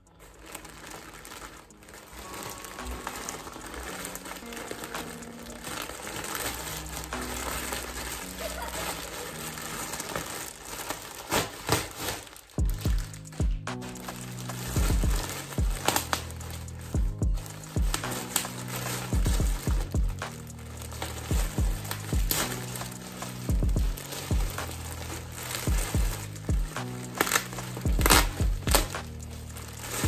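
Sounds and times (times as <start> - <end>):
background music: 0.0 - 30.0
plastic bag rustling: 0.0 - 30.0
plastic mailer crinkling and tearing: 0.0 - 30.0.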